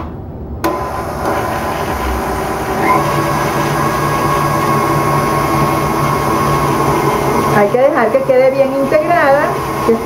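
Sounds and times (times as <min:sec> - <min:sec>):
stand mixer running: 0:00.7 - 0:10.0.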